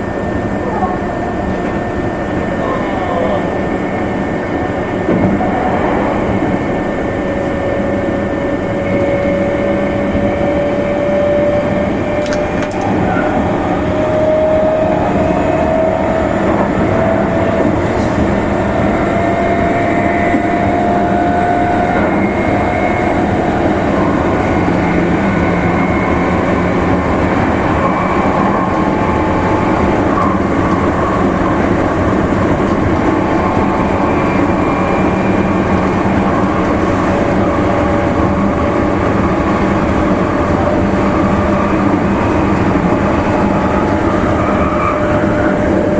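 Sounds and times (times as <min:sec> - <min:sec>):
train motor whine: 0:00.0 - 0:45.9
train wheels rumbling on rail: 0:00.0 - 0:45.9.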